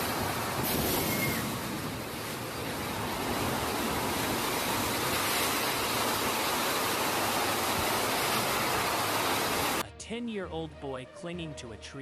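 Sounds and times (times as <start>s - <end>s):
floodwater rushing: 0.0s - 9.8s.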